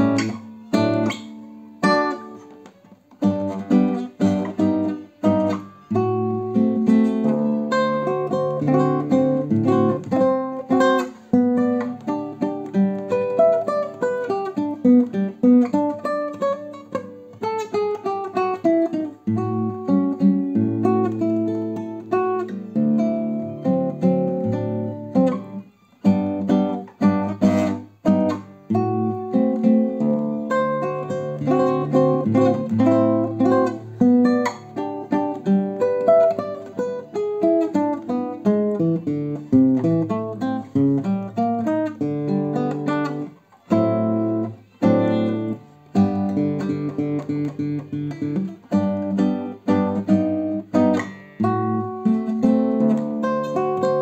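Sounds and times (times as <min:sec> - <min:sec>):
classical guitar fingerstyle: 0:00.0 - 0:54.0.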